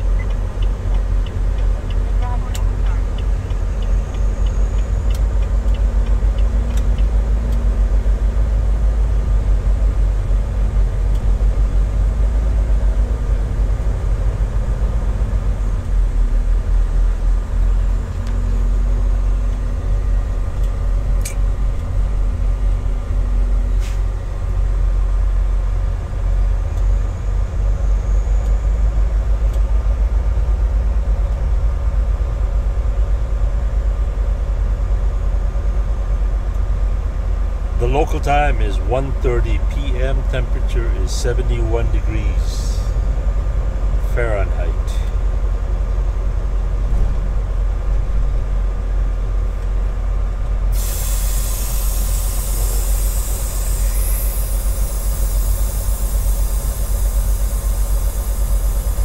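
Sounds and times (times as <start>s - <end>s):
truck diesel engine rumbling: 0.0s - 59.0s.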